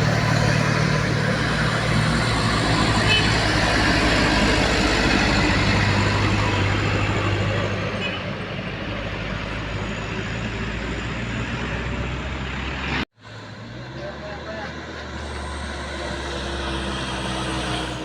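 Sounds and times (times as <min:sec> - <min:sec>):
truck engine pulling uphill: 0:00.0 - 0:18.0.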